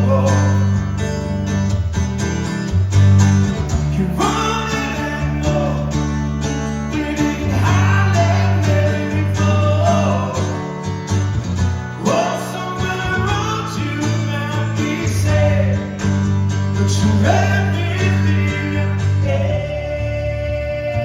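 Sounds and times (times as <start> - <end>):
acoustic guitars playing chords: 0.0 - 21.0
bass line: 0.0 - 21.0.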